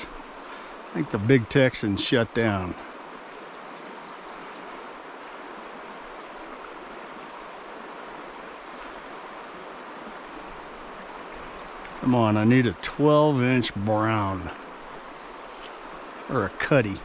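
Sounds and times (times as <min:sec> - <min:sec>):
stream running water: 0:00.0 - 0:17.0.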